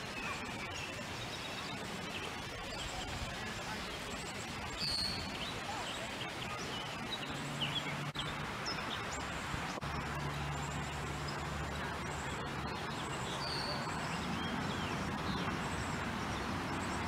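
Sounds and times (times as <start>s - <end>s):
low steady hum: 0.0s - 17.0s
songbirds chirping: 0.0s - 17.0s.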